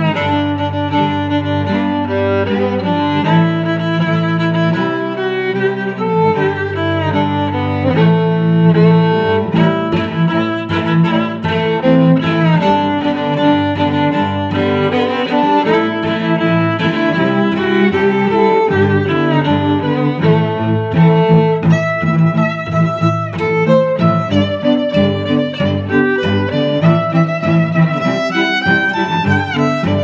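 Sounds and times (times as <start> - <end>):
low cello notes: 0.0 - 30.0
violin melody: 0.0 - 30.0.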